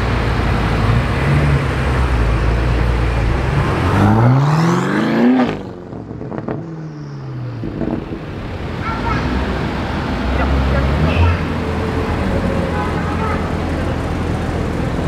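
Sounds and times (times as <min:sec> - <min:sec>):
car engine accelerating: 0:00.0 - 0:12.8.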